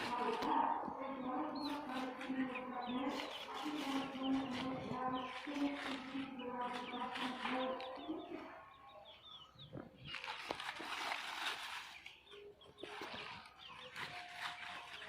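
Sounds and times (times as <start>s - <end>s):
rustling noise: 0.0s - 8.0s, 9.8s - 15.0s
small birds chirping: 0.0s - 15.0s.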